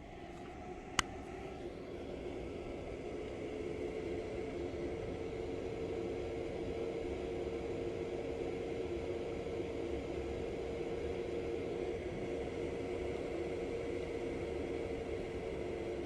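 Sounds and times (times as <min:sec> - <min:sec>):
duct fan running: 0:00.0 - 0:16.0.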